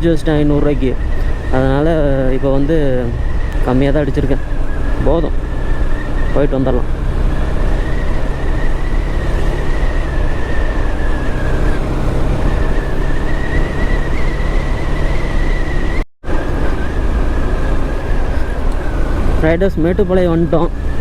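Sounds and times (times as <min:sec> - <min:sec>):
motorcycle engine drone: 0:00.0 - 0:21.0
road and wind noise: 0:00.0 - 0:21.0.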